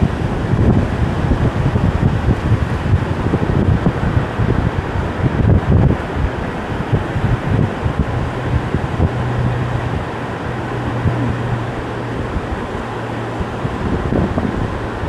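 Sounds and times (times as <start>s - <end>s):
low machine hum: 0.0s - 15.0s
wind rumbling on microphone: 0.0s - 15.0s.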